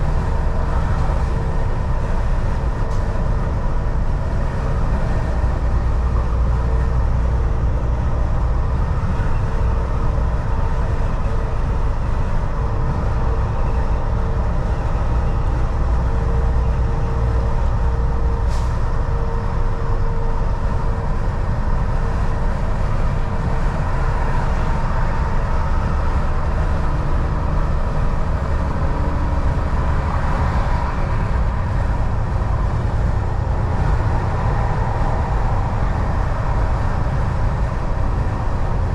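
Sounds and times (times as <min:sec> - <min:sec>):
road noise: 0:00.0 - 0:38.9
truck engine drone: 0:00.0 - 0:38.9.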